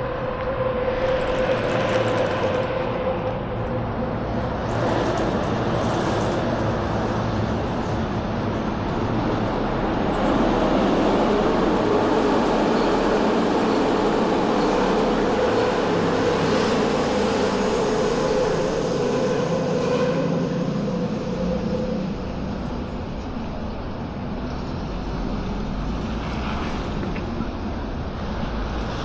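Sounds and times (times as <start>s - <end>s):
subway train passing: 0.0s - 29.0s
train whine: 0.0s - 29.0s.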